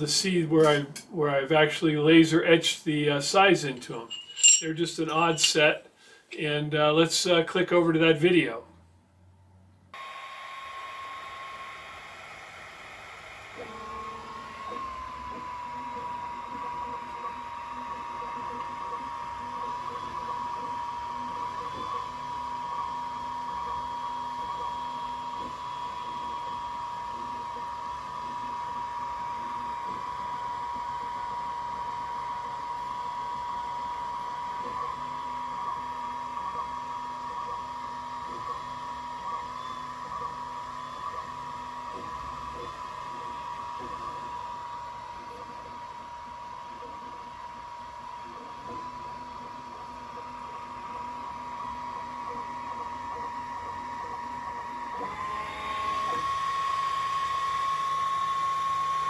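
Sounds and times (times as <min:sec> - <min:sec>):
faint machine hum: 0:00.0 - 0:59.0
laser engraver whine: 0:10.0 - 0:59.0.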